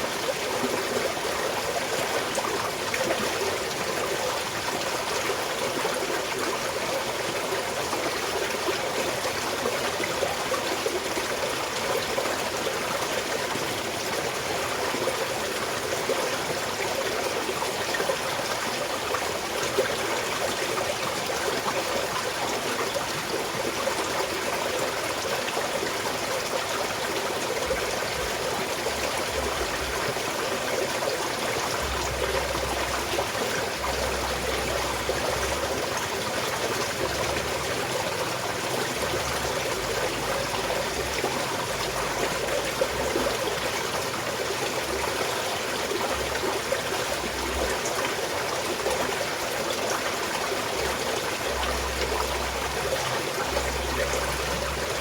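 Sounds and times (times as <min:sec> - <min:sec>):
stream trickling over stones: 0:00.0 - 0:55.0.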